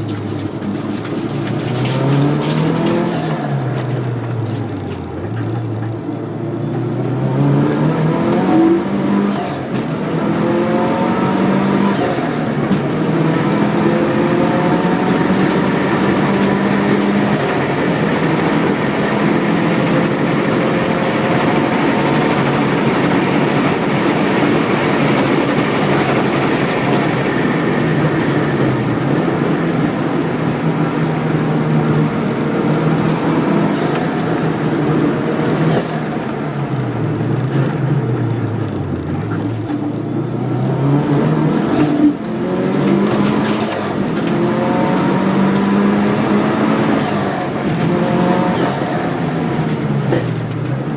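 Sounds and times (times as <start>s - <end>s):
race car engine running hard: 0.0s - 50.9s.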